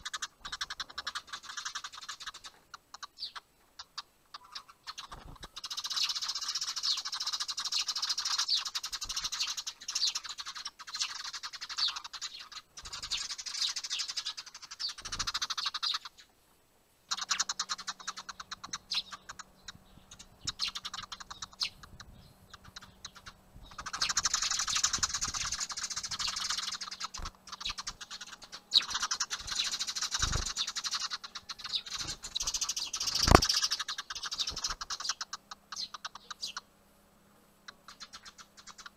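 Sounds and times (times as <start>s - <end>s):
sparrows chirping harshly: 0.0s - 16.3s, 17.0s - 38.9s.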